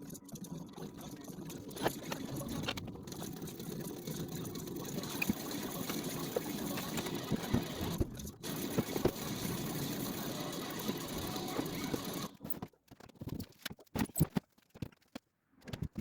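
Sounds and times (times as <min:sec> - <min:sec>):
scattered clicks and knocks: 0:01.5 - 0:16.0.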